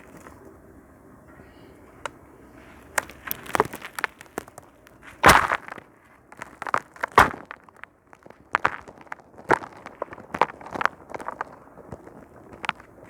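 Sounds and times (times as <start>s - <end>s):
sand crunching on concrete: 2.5s - 13.0s.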